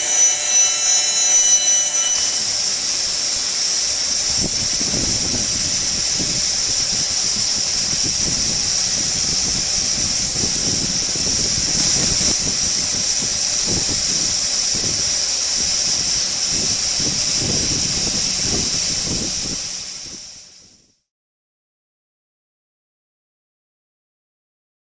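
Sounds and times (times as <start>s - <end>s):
food mill whining and rumbling: 0.0s - 20.5s.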